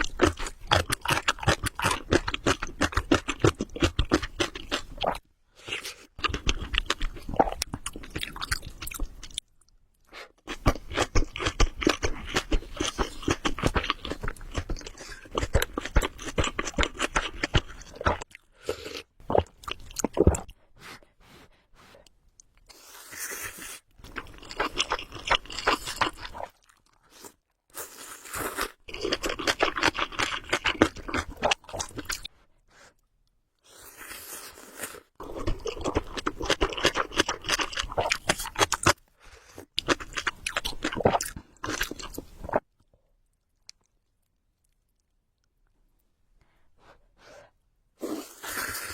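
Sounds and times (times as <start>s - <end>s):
close chewing with mouth clicks: 0.0s - 20.7s, 21.8s - 46.2s.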